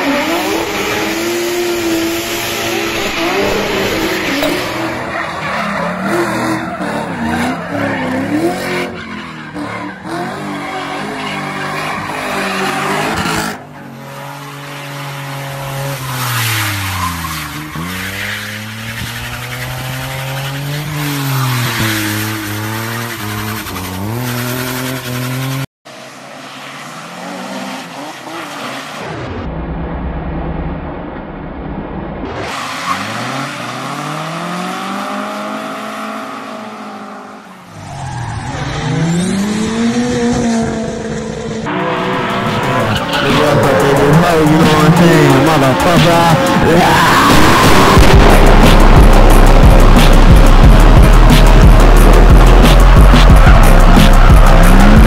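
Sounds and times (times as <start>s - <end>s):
engines revving: 0.0s - 29.5s, 32.2s - 55.0s.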